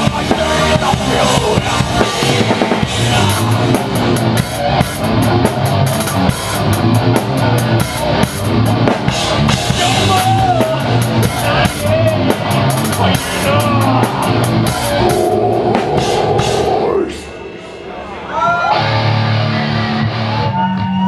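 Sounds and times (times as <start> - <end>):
drum kit with cymbals: 0.0 - 19.7
distorted guitars: 0.0 - 21.0
thrash metal band playing live: 0.0 - 21.0.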